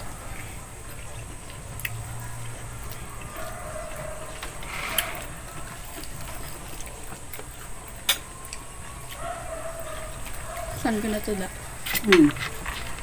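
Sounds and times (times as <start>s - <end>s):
quiet chewing: 0.0s - 13.0s.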